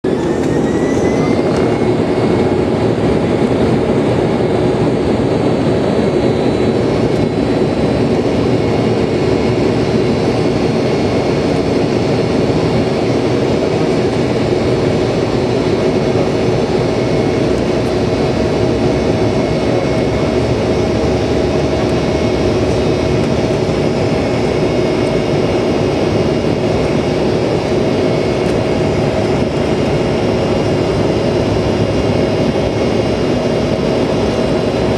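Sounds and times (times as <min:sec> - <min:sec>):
jet engines at takeoff power: 0:00.0 - 0:34.9.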